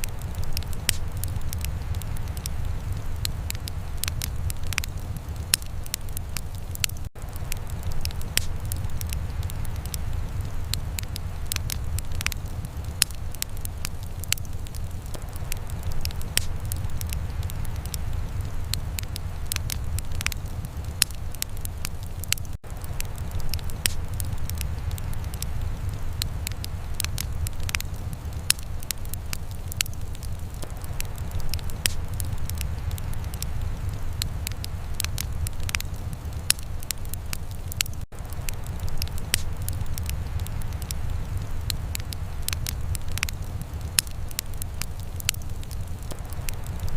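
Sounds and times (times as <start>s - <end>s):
low rumble of flames: 0.0s - 46.9s
wood fire crackling and popping: 0.0s - 46.9s.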